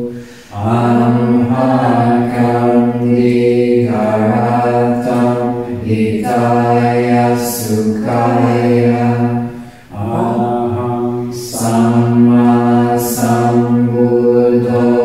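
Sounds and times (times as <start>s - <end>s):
voices chanting low notes: 0.0s - 15.0s.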